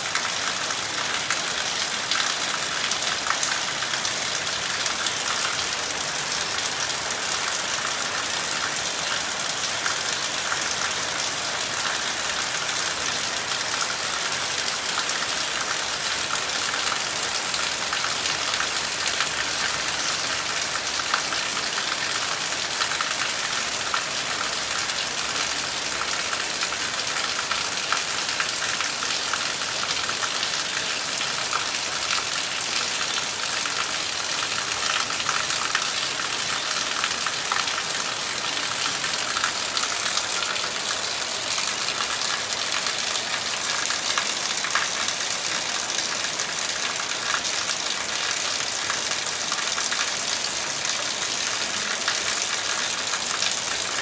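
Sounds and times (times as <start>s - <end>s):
torrential rain on foliage: 0.0s - 54.0s.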